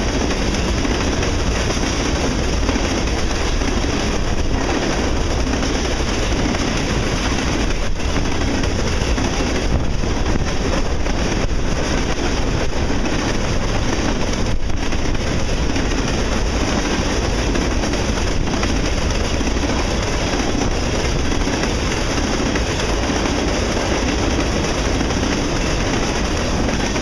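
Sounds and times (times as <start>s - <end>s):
train wheels rushing on rail: 0.0s - 27.0s.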